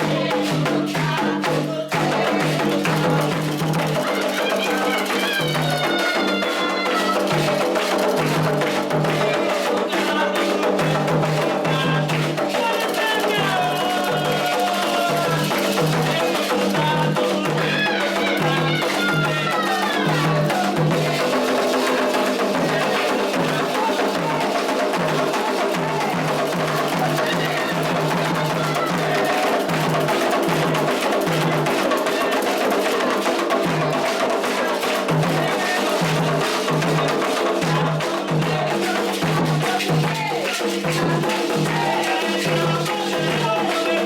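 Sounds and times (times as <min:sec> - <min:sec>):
hand drums playing fast rhythm: 0:00.0 - 0:44.0
sharp struck percussion: 0:00.0 - 0:44.0
voices singing a chant: 0:00.0 - 0:44.0.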